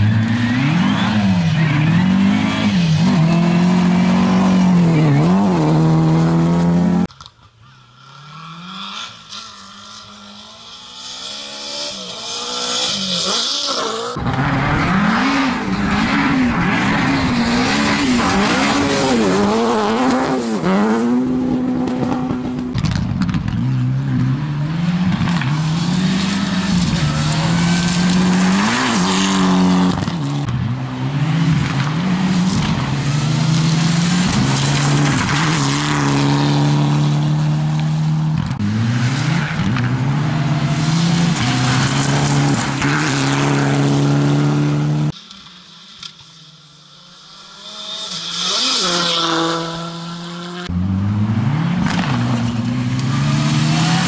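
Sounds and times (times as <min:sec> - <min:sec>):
rally car engines passing: 0:00.0 - 0:46.2, 0:47.0 - 0:54.0.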